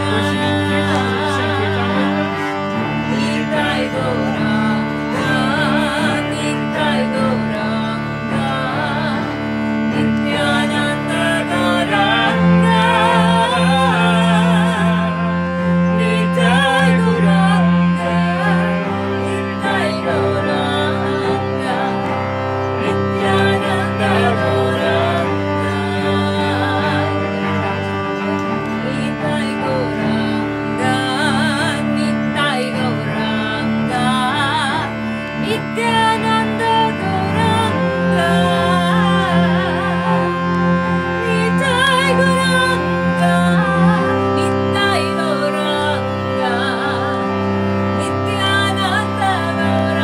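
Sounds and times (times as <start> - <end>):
woman singing a chant: 0.0 - 28.0, 28.8 - 50.0
bowed cello: 0.0 - 50.0
harmonium: 0.0 - 50.0.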